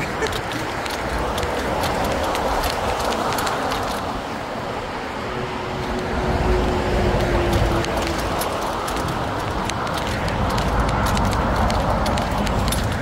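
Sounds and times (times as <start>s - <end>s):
passing vehicle hum: 0.0s - 13.0s
road traffic rumbling: 0.0s - 13.0s.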